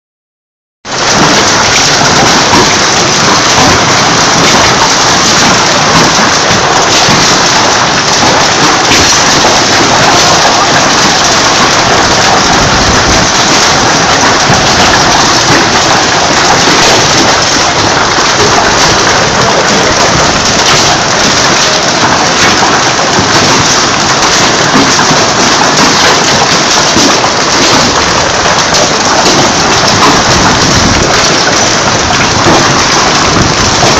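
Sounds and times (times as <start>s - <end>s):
hail and rain pelting down: 0.8s - 33.9s.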